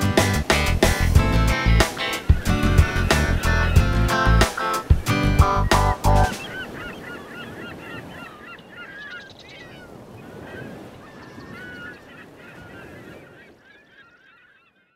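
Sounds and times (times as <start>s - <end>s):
flock of birds calling: 1.5s - 14.9s.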